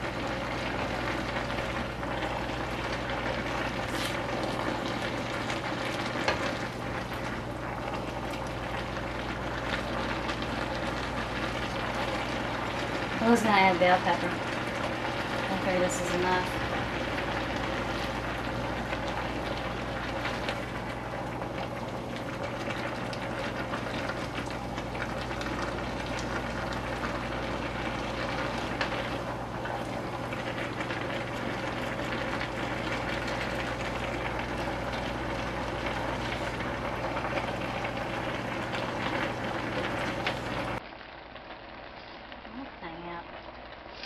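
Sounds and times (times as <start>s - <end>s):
food sizzling in a wok: 0.0s - 44.0s.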